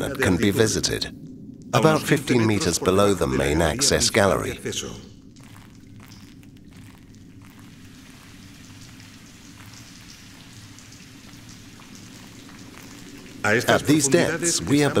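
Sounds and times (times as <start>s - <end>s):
water dripping: 0.0s - 15.0s.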